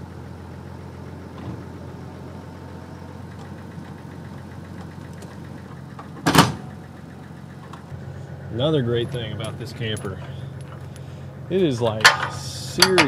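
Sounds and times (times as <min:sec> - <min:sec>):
pickup truck engine idling: 0:00.0 - 0:13.0.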